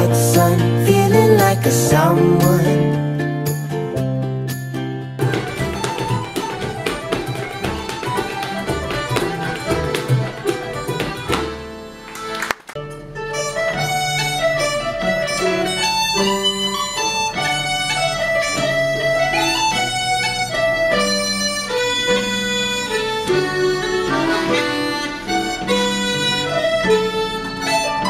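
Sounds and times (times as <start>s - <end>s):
accordion melody: 0.0s - 3.6s, 5.2s - 28.0s.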